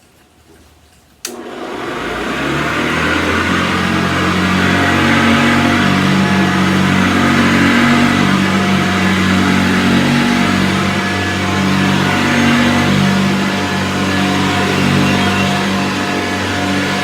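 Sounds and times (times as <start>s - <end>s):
vacuum cleaner running: 1.3s - 17.0s.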